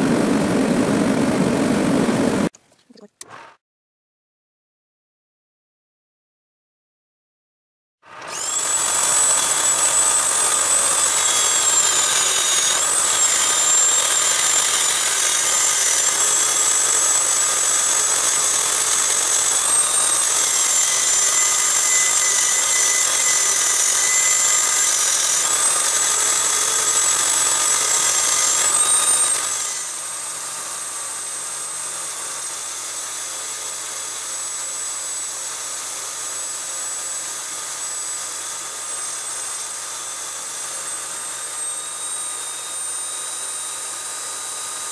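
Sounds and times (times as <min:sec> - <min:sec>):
rotary tool grinding metal: 0:08.2 - 0:44.9.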